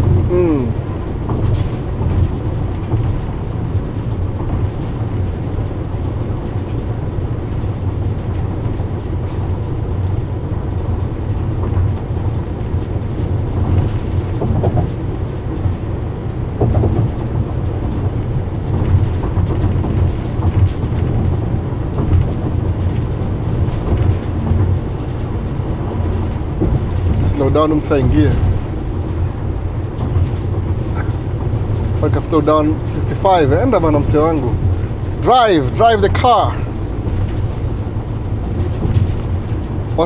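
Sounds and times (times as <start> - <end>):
car interior road rumble: 0.0 - 40.0.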